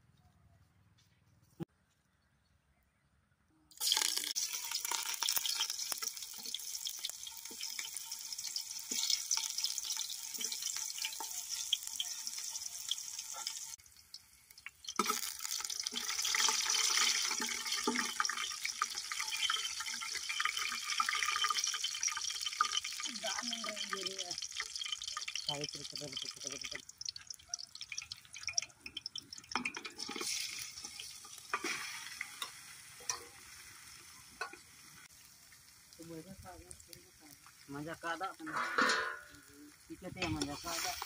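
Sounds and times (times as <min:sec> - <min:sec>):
onions sizzling in hot oil: 0:03.8 - 0:41.0.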